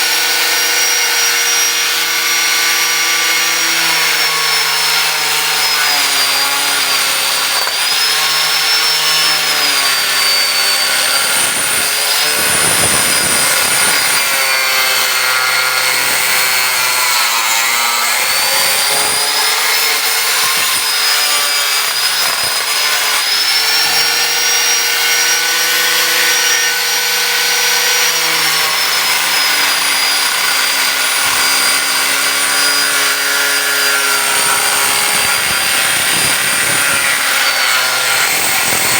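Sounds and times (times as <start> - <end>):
angle grinder cutting metal: 0.0 - 38.9.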